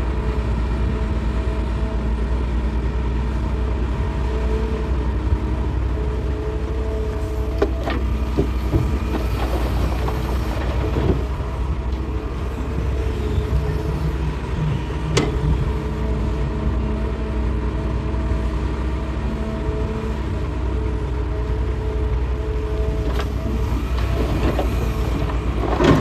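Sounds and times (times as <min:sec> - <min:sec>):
excavator diesel engine rumbling: 0:00.0 - 0:26.0.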